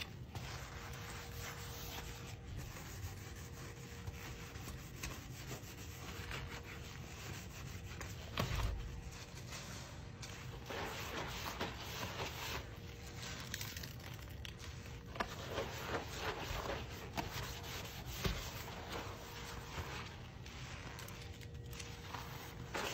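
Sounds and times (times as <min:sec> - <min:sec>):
sponge scrubbing a faucet: 0:00.0 - 0:22.9.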